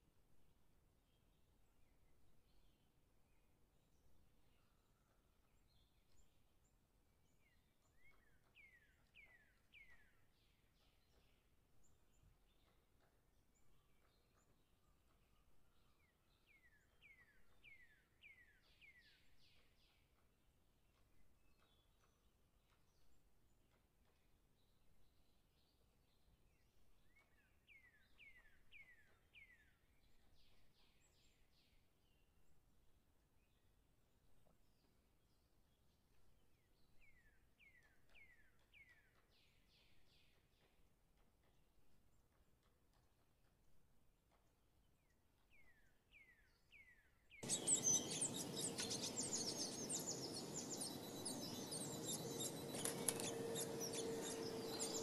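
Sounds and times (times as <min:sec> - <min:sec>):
faint birdsong: 0:00.0 - 0:55.0.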